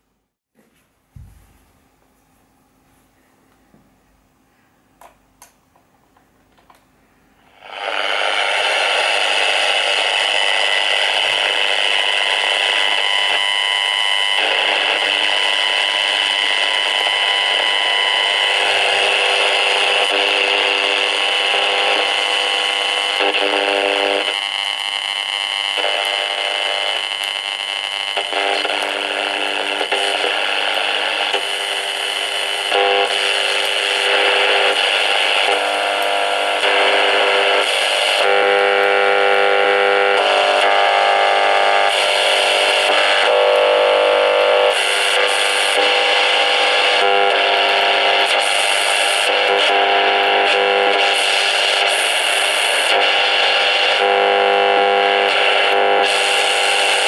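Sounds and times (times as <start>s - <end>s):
radio interference hiss and buzzing: 7.1s - 57.0s.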